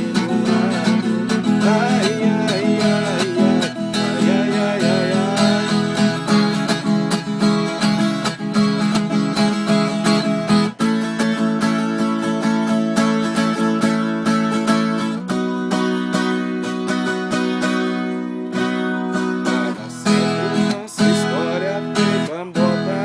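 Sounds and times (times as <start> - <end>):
guitar plucked and strummed: 0.0 - 23.0.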